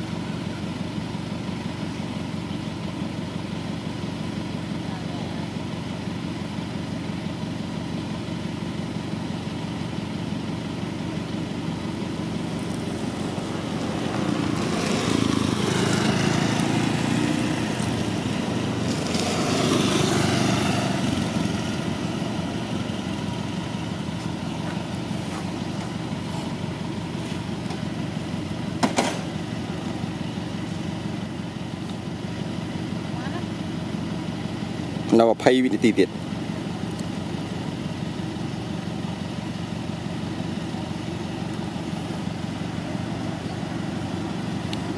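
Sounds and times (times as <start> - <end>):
low engine hum: 0.0 - 44.9.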